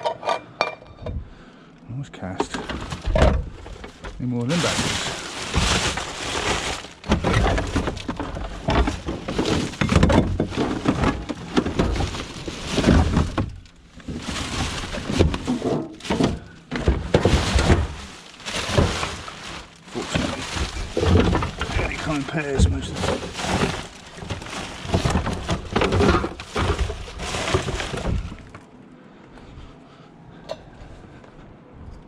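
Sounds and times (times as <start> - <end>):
scrap items clattering: 2.2 - 28.6.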